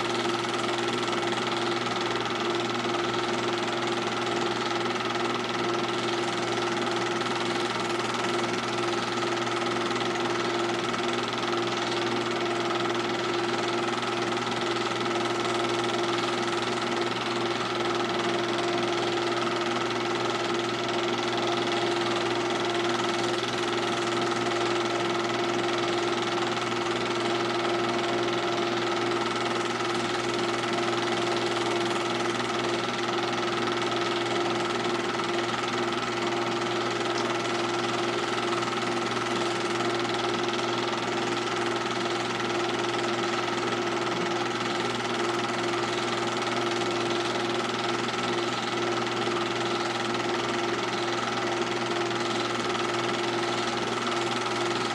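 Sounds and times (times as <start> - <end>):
film projector whirring: 0.0 - 54.9.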